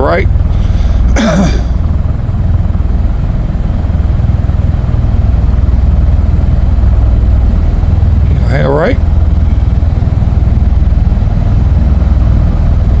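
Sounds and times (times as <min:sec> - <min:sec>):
tiltrotor aircraft deep drone: 0:00.0 - 0:13.0.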